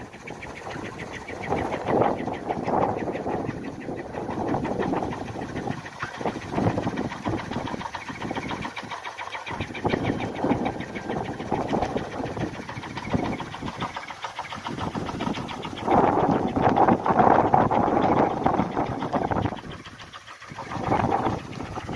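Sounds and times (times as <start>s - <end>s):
wind propeller buzzing drone: 0.0s - 21.9s.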